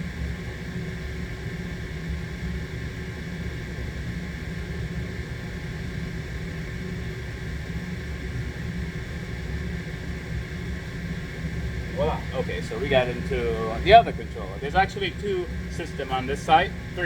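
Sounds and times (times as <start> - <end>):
faint steady hum: 0.0 - 17.0
machinery rumble and hiss: 0.0 - 17.0.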